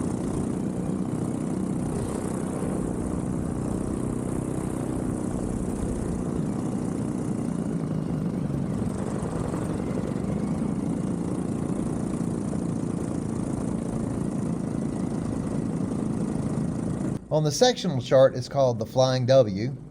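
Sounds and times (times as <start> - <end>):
paramotor engine and propeller: 0.0 - 19.9.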